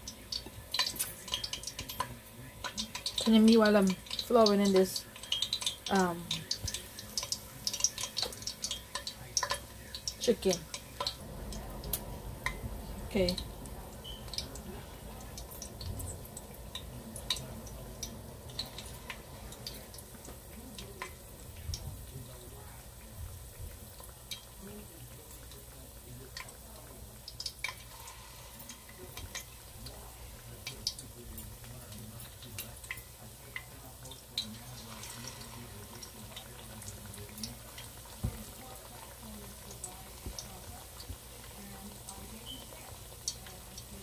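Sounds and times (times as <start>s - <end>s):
chicken frying in hot oil: 0.0s - 44.0s
oil crackling and popping: 0.0s - 44.0s.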